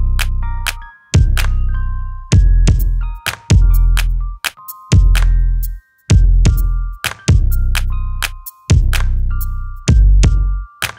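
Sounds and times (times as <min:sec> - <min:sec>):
electronic music: 0:00.0 - 0:10.9.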